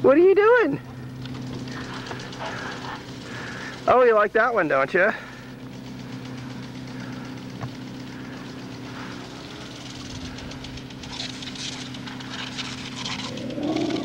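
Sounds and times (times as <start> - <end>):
low mechanical hum: 0.0 - 14.0
sprinkler spraying water: 1.2 - 5.1, 5.7 - 14.0.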